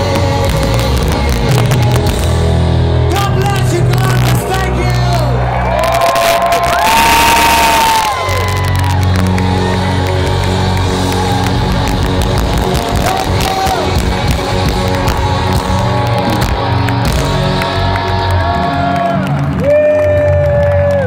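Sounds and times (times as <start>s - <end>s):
rock band playing live: 0.0s - 21.0s
crowd cheering: 4.0s - 21.0s.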